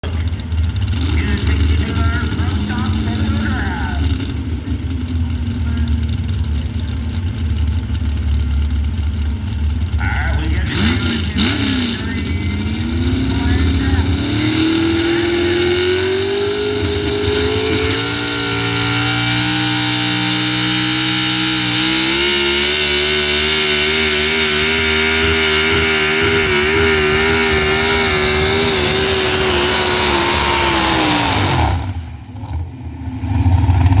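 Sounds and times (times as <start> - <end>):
truck engine revving under load: 0.0 - 34.0.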